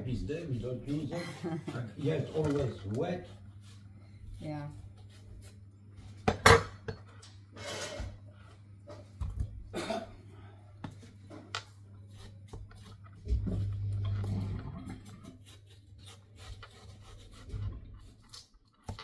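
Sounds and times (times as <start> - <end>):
faint low hum: 0.0 - 18.8.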